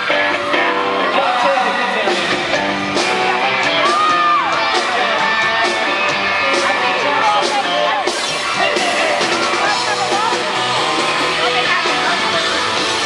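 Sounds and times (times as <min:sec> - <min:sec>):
crowd shouts and whoops: 0:00.0 - 0:13.0
live pop-rock band with singing: 0:00.0 - 0:13.0.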